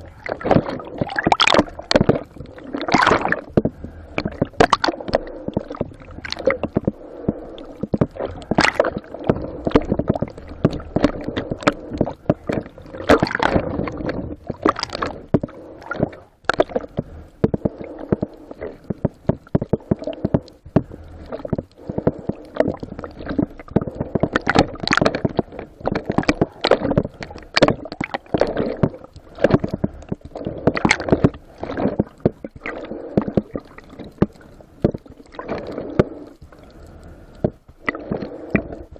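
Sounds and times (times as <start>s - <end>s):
water sloshing and gurgling: 0.0s - 38.9s
water splashes: 0.0s - 38.9s.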